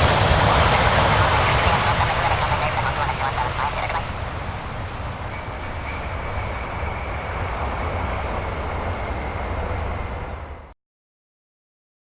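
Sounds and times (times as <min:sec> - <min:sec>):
faint high whine: 0:00.0 - 0:10.7
aircraft engine rumble: 0:00.0 - 0:10.8.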